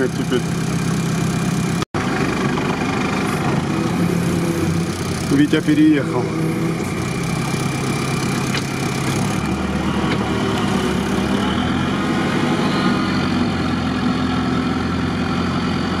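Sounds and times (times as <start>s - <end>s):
engine running at low revs: 0.0s - 16.0s.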